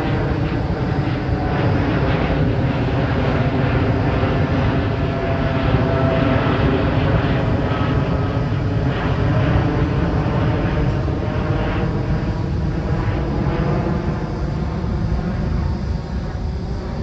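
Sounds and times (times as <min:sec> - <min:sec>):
jet engines at climb power: 0:00.0 - 0:17.0.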